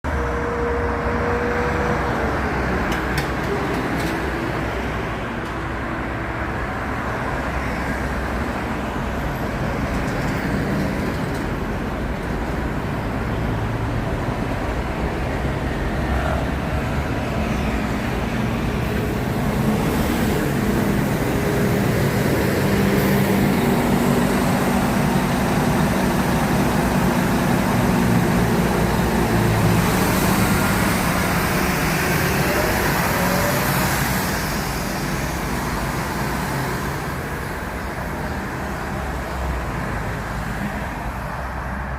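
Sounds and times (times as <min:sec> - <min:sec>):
bus diesel engine rumbling: 0:00.0 - 0:41.9.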